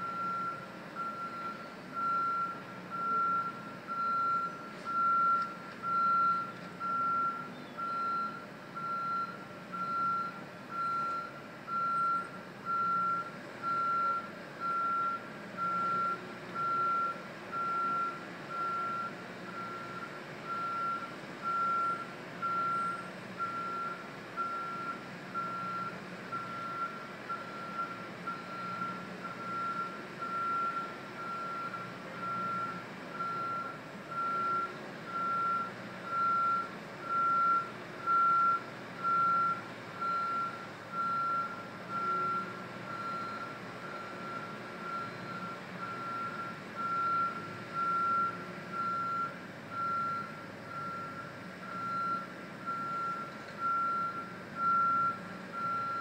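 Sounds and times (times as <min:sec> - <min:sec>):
back-up alarm beeping: 0:00.0 - 0:56.0
low engine hum: 0:00.0 - 0:56.0.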